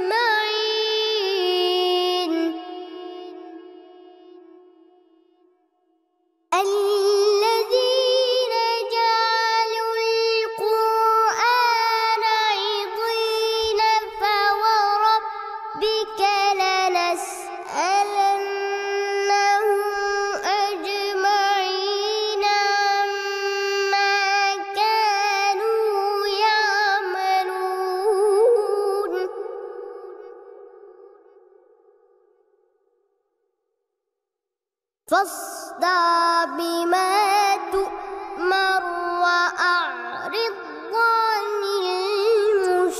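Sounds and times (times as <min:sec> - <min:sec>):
boy reciting in melodic style: 0:00.0 - 0:05.2, 0:06.5 - 0:31.3, 0:35.1 - 0:42.9.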